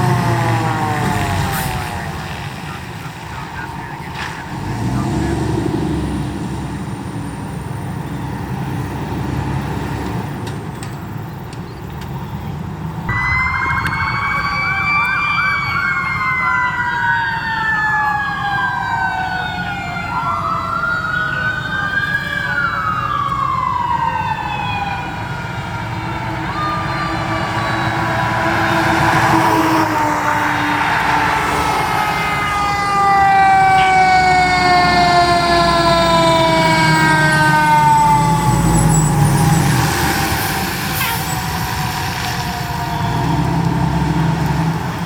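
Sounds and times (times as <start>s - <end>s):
emergency vehicle siren wailing: 0.0s - 10.0s, 13.1s - 45.0s
vehicle rumble: 0.0s - 45.0s.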